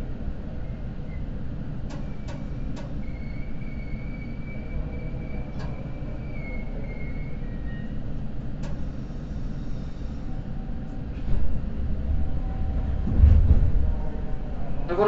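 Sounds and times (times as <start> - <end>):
stationary train low hum: 0.0 - 15.0.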